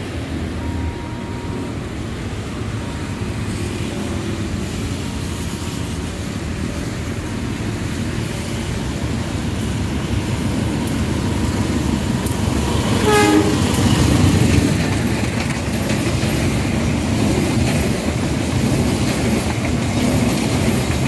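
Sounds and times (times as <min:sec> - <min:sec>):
road traffic rumble: 0:00.0 - 0:20.9
distant diesel train approaching: 0:00.0 - 0:21.0.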